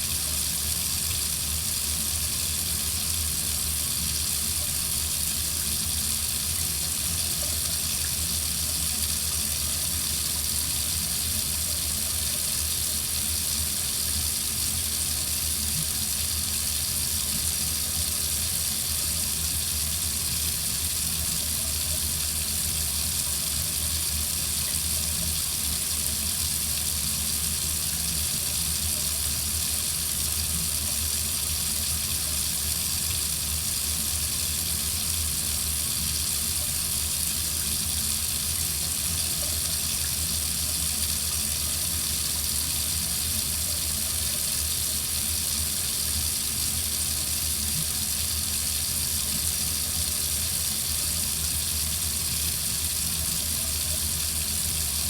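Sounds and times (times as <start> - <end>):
water faucet running: 0.0 - 55.0.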